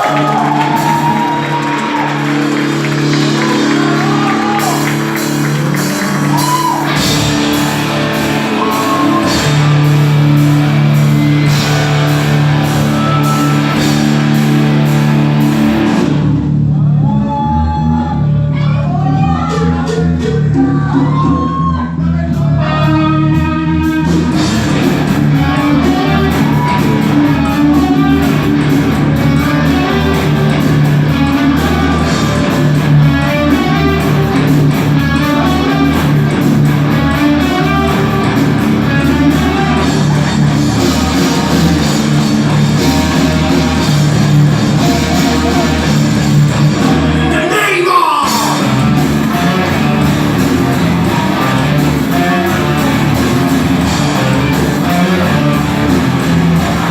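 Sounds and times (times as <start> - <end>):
guitar sliding down in pitch: 0.0 - 16.6, 22.6 - 47.4, 48.2 - 56.9
live rock band playing: 0.0 - 16.6, 22.3 - 56.9.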